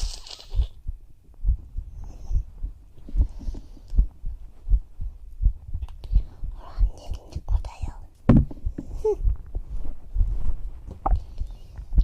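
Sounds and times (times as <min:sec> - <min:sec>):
heartbeat double thumps: 0:00.6 - 0:12.0.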